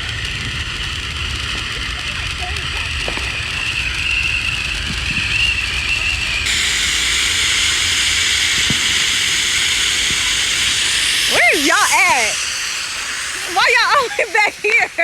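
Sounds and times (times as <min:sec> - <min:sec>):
firework spraying sparks hissing: 0:00.0 - 0:15.0.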